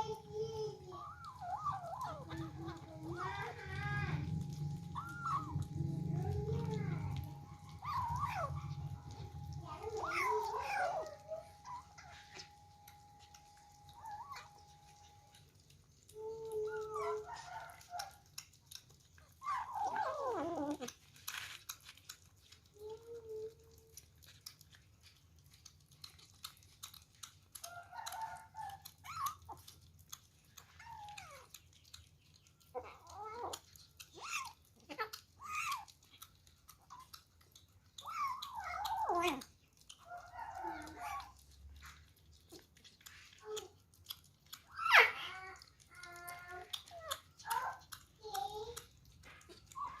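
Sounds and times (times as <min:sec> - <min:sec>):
kittens eating smacking sounds: 0:00.0 - 0:50.0.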